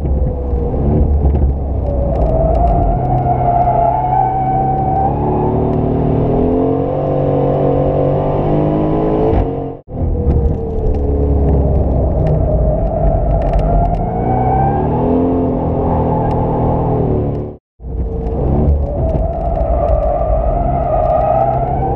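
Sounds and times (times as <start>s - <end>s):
car engine under hard driving: 0.0s - 21.9s.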